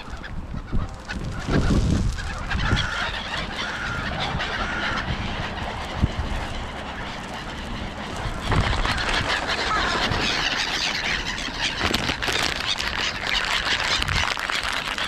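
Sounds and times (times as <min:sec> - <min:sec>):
gulls squealing: 0:00.0 - 0:15.0
low wind rumble: 0:00.0 - 0:15.0.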